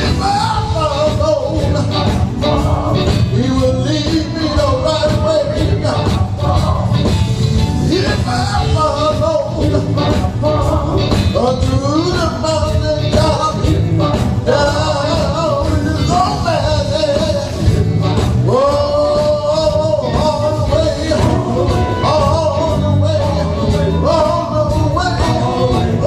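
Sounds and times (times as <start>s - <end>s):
man singing long notes: 0.0s - 7.1s, 7.9s - 26.0s
gospel band with bass and drums: 0.0s - 26.0s.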